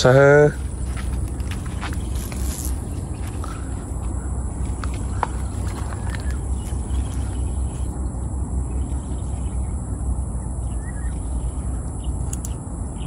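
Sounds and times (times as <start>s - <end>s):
wind buffeting microphone: 0.0s - 13.0s
faint bird chirps: 0.6s - 13.0s.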